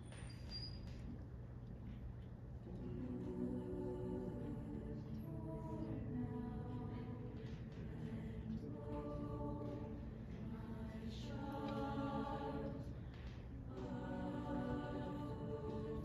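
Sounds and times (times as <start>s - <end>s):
choir singing sustained chords: 2.6s - 16.0s.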